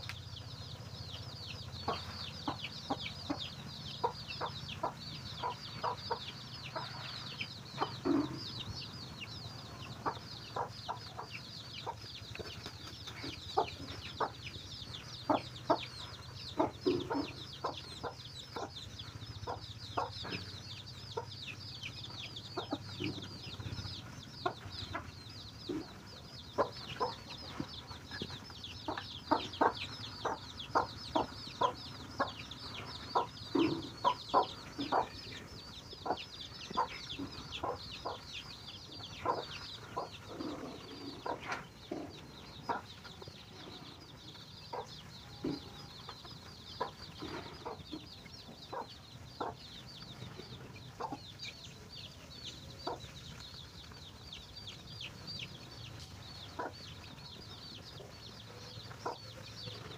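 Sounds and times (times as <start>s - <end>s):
chicks peeping: 0.0s - 59.9s
hen clucking: 0.0s - 59.9s.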